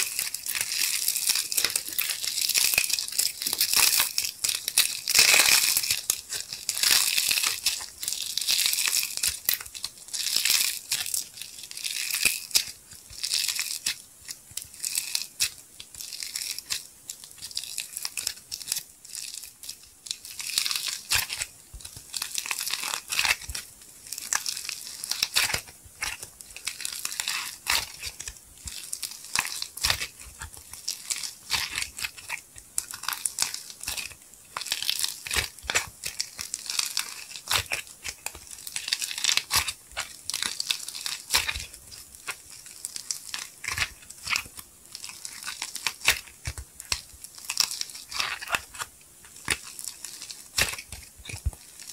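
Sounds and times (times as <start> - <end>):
clay crust crackling and crunching: 0.0 - 51.9
clay tearing: 0.0 - 51.9.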